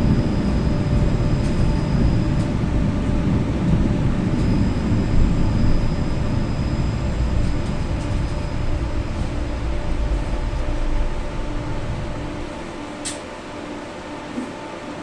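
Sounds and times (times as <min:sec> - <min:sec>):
faint high whine: 0:00.0 - 0:14.3
tram rumbling along rails: 0:00.0 - 0:15.0.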